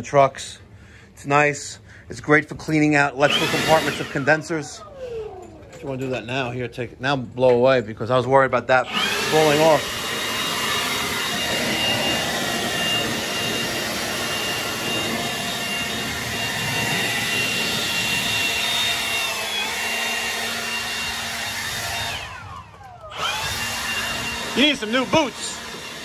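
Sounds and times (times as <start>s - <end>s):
cordless blower whining: 2.8s - 6.5s, 8.7s - 26.0s.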